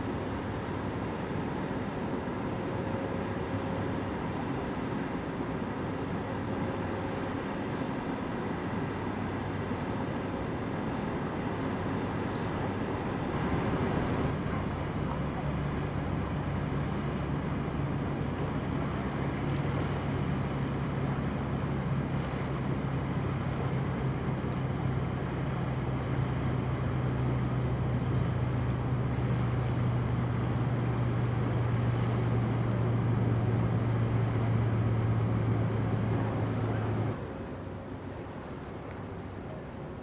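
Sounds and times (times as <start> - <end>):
ship engine drone: 0.0 - 40.0.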